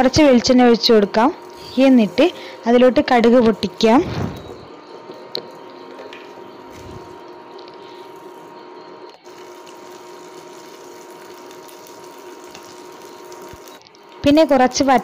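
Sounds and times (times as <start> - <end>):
cooktop whine: 0.0 - 15.0
spices sizzling in oil: 0.4 - 4.0, 6.4 - 15.0.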